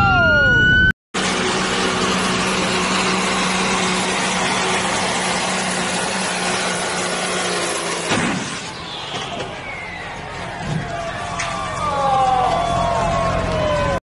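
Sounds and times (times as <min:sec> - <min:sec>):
diesel truck engine under load: 0:01.2 - 0:14.0.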